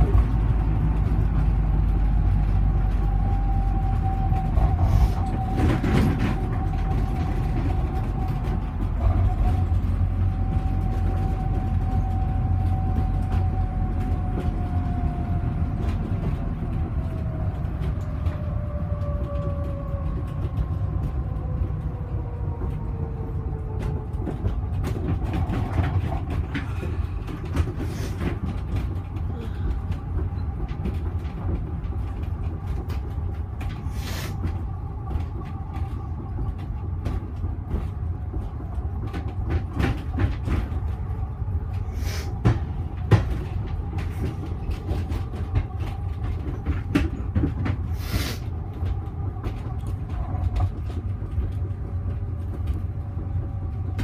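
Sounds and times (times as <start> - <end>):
knocks and rattles: 0.0 - 54.0
vehicle cabin low rumble: 0.0 - 54.0.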